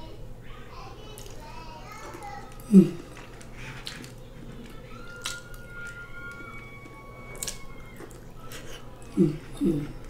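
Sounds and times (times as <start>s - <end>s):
wet squishy eating: 1.1s - 10.0s.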